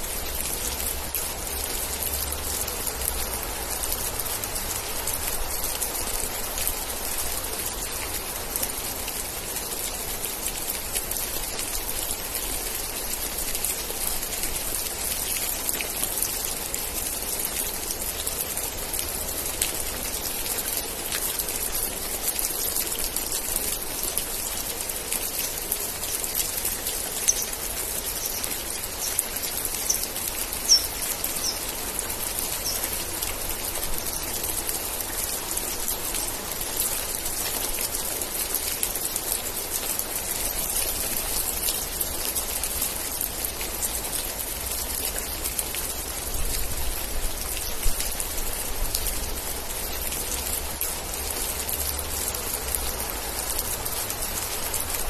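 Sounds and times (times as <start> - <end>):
raindrops ticking close by: 0.0 - 55.0
steady rain: 0.0 - 55.0.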